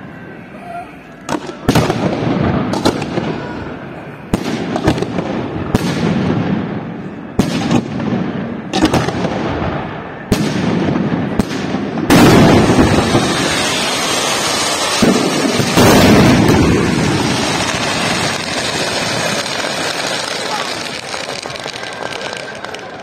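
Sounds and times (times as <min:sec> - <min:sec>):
continuous rush of fireworks: 0:00.0 - 0:23.0
fireworks bangs with echo: 0:01.3 - 0:23.0.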